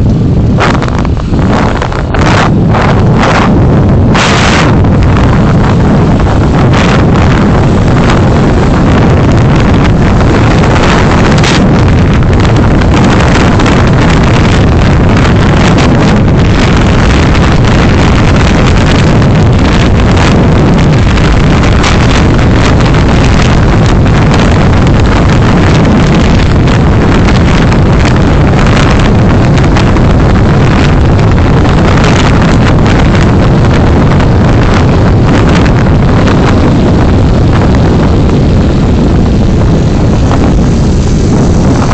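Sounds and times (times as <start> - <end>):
car road and engine rumble: 0.0 - 41.9
constant crackle: 0.0 - 41.9.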